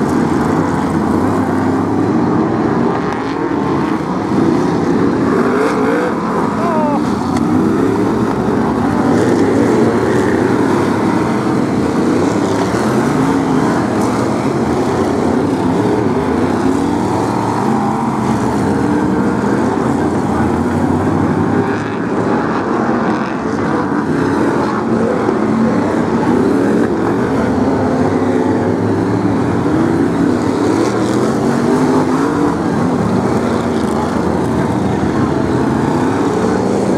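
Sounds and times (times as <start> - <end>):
race car engines: 0.0 - 36.9.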